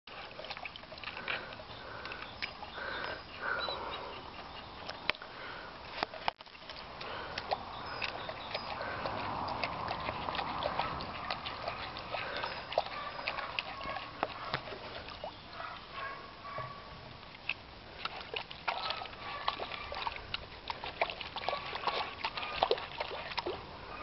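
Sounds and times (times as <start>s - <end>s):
puppy lapping wet food: 0.1s - 5.0s, 6.0s - 16.1s, 17.3s - 24.0s.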